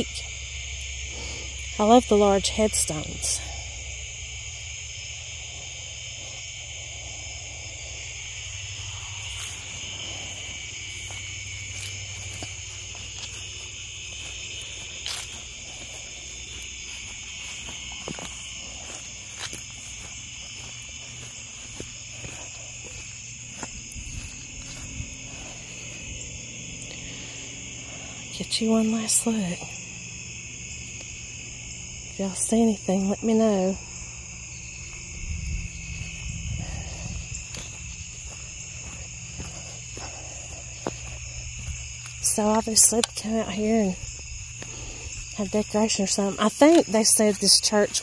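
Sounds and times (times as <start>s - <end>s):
crickets and insects trilling: 0.0s - 48.0s.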